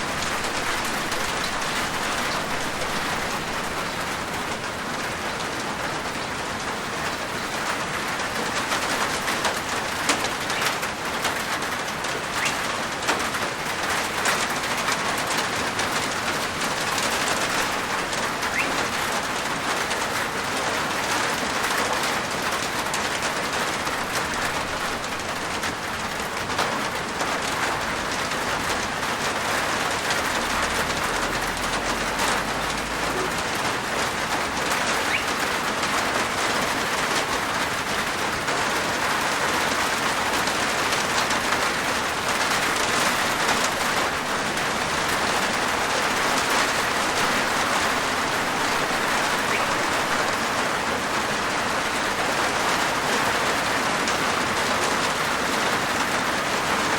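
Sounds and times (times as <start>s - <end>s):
rain falling on a roof: 0.0s - 56.9s.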